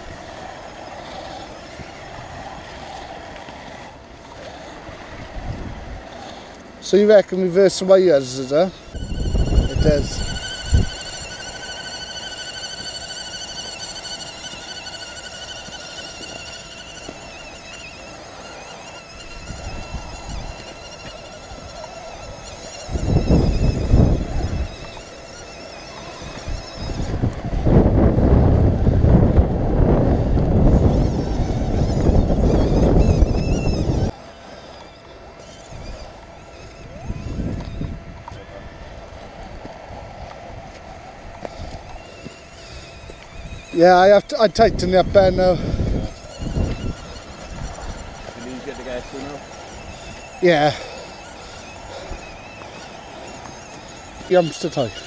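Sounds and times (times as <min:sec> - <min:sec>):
toy truck motors whining: 0:00.0 - 0:55.0
wind buffeting microphone: 0:00.0 - 0:55.0.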